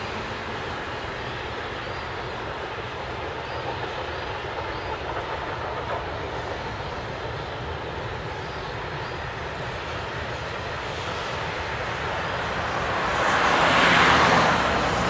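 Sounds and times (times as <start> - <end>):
distant steam locomotive: 0.0 - 15.0.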